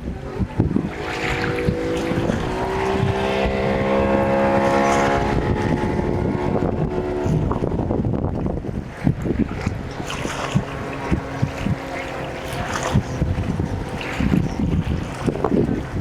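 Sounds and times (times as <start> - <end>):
boat engine passing: 0.0 - 16.0
wind buffeting microphone: 0.0 - 16.0.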